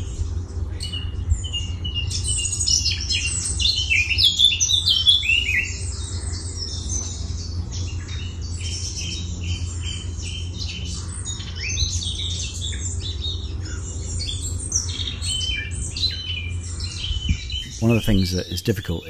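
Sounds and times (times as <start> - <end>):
songbirds singing and calling: 0.0 - 19.0
steady low hum: 0.0 - 19.0.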